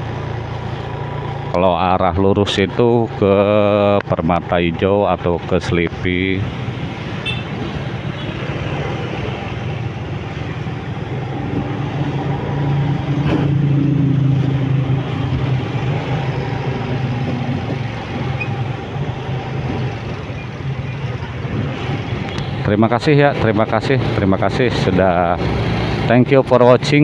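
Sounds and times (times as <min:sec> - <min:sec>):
motorcycle and car engines in traffic: 0:00.0 - 0:27.0
road noise: 0:00.0 - 0:27.0.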